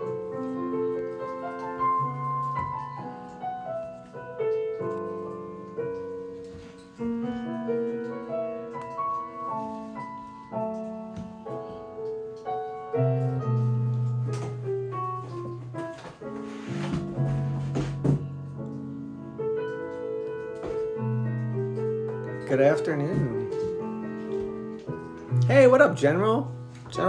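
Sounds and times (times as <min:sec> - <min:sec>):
solo piano music: 0:00.0 - 0:27.0.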